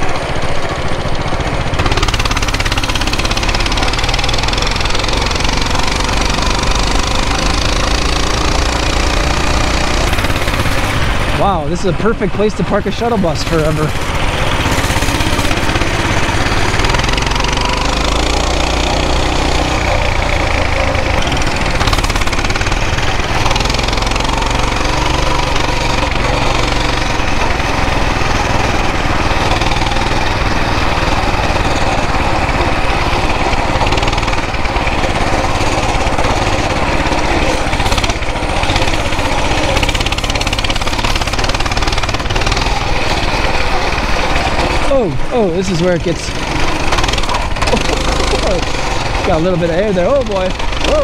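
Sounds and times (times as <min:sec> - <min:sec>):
mini bike engine running: 0:00.0 - 0:51.0.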